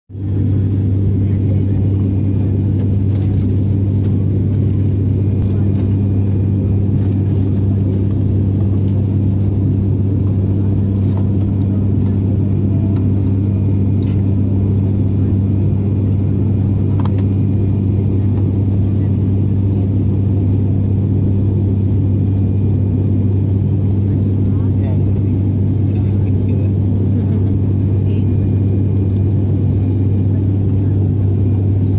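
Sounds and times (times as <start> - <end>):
propeller engines droning: 0.1 - 31.9.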